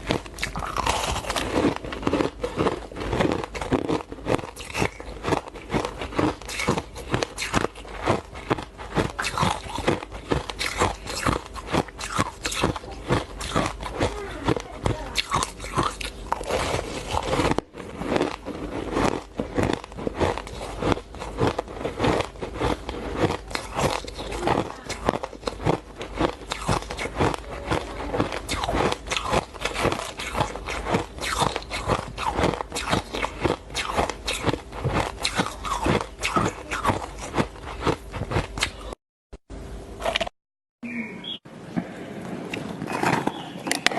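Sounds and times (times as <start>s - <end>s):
chewing crunchy shaved ice: 0.0s - 39.0s.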